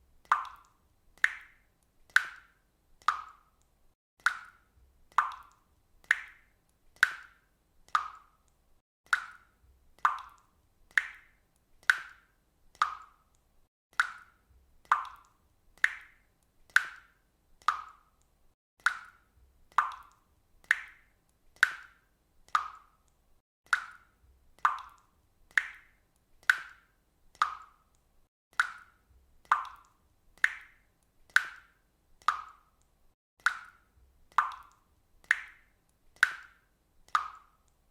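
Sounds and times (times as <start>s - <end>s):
water drops dripping: 0.2s - 37.9s.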